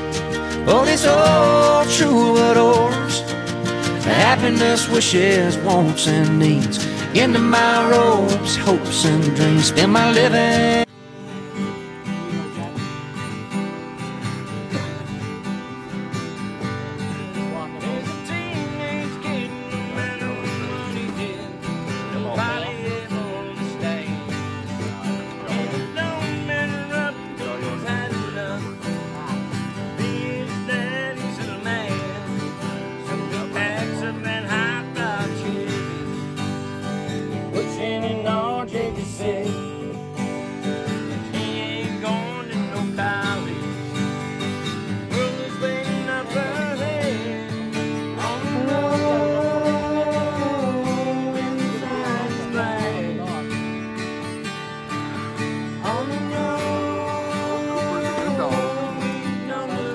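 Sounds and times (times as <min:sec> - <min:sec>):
lead melody with bent notes: 0:00.0 - 0:59.9
strummed acoustic guitar: 0:00.0 - 0:59.9.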